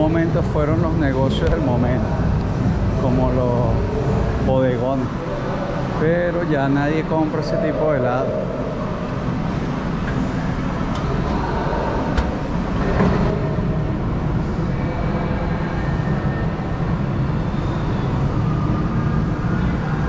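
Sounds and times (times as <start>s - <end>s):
shopping mall background rumble: 0.0s - 20.0s.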